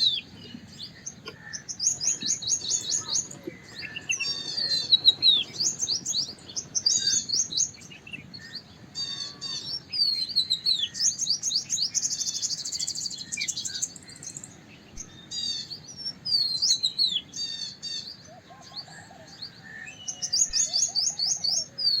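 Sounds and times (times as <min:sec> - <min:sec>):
wagtail singing: 0:00.0 - 0:22.0.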